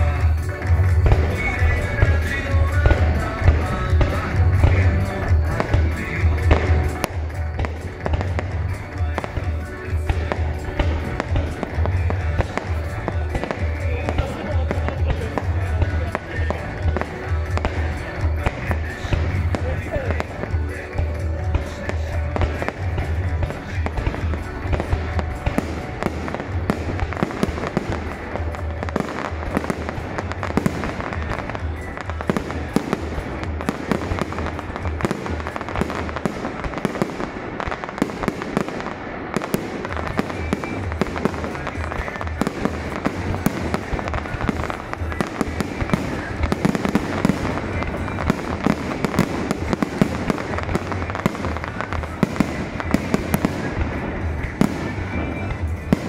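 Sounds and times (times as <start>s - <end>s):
fireworks bursting and crackling: 0.0s - 56.0s
music playing: 0.0s - 56.0s.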